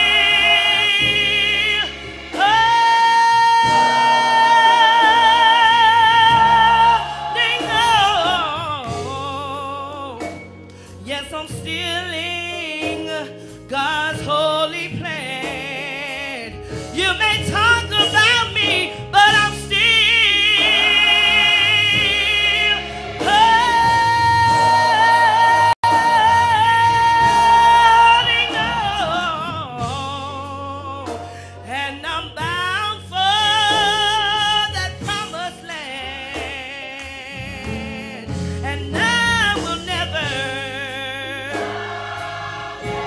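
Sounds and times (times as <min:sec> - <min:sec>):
low musical accompaniment: 0:00.0 - 0:43.0
person singing gospel: 0:00.0 - 0:43.0.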